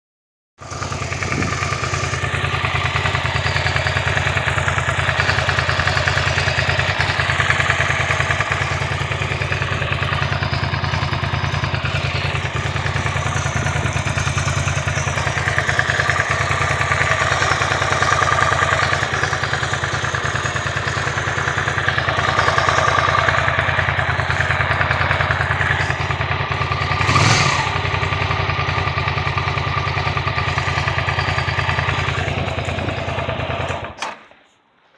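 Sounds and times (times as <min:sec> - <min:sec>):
engine ticking: 0:00.6 - 0:34.0
motorcycle engine idling: 0:00.6 - 0:34.5.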